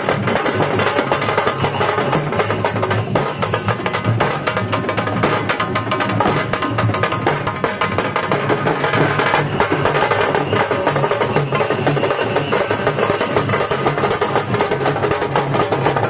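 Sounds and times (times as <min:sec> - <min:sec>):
drum band playing fast rhythm: 0:00.0 - 0:16.0.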